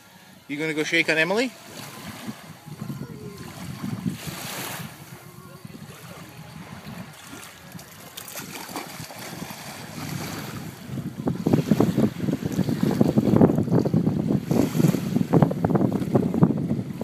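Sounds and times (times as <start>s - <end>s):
water splashing and lapping: 0.0s - 17.0s
wind on microphone: 1.5s - 17.0s.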